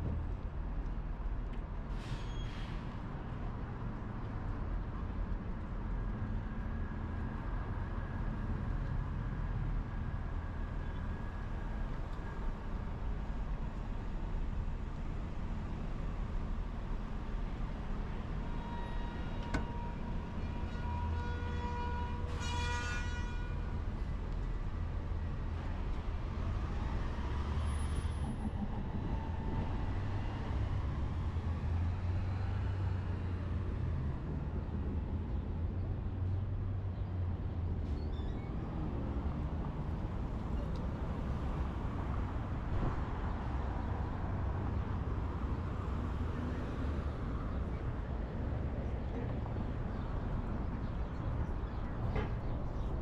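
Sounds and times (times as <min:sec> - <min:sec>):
street traffic rumbling: 0:00.0 - 0:53.0.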